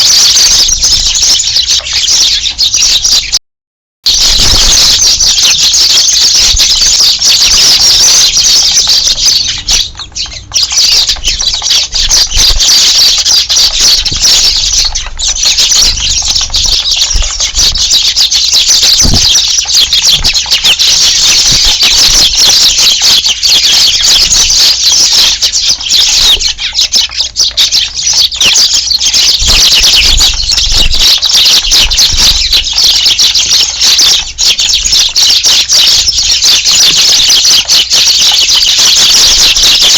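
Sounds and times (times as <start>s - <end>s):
flock of sparrows chirping: 0.0s - 3.4s, 4.1s - 39.9s.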